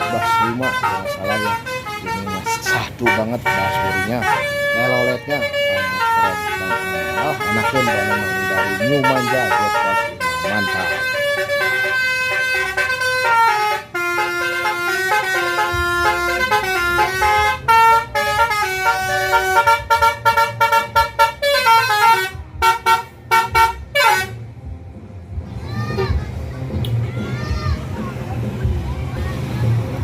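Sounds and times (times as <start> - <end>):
bus horn playing a tune: 0.0 - 24.5.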